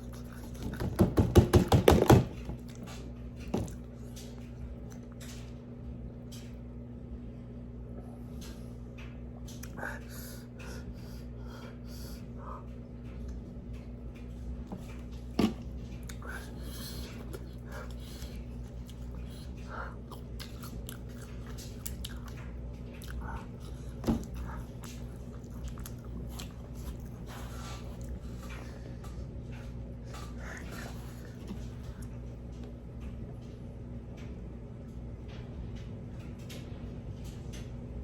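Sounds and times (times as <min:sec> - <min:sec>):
chewing and mouth noises: 0:00.0 - 0:01.0, 0:02.4 - 0:06.6, 0:08.3 - 0:33.6.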